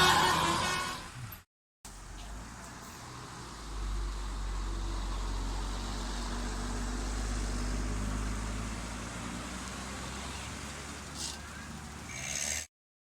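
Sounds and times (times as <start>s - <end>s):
bus engine rumble: 0.0s - 12.3s
road noise: 0.0s - 12.7s.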